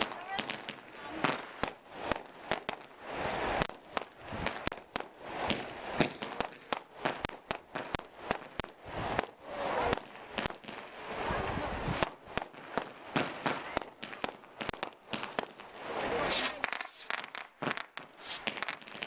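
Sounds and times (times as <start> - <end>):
fireworks bursting with sharp bangs: 0.0 - 19.0.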